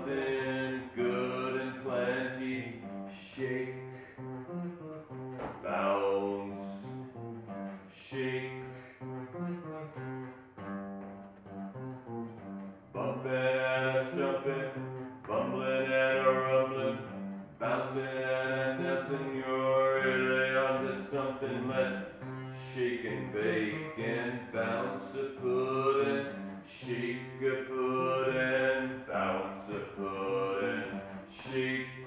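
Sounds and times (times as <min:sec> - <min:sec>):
bowed string instrument: 0:00.0 - 0:32.0.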